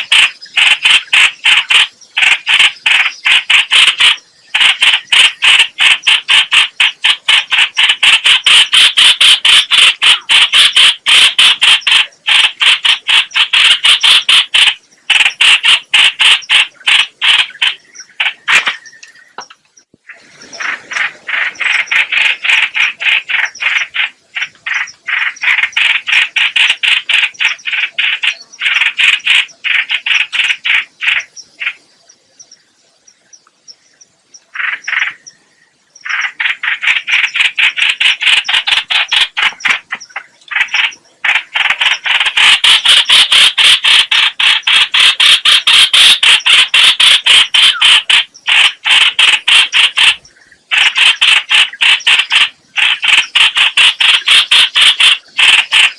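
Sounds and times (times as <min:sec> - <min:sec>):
bird harsh rapid chatter: 0:00.0 - 0:31.9, 0:34.5 - 0:35.3, 0:36.0 - 0:55.9.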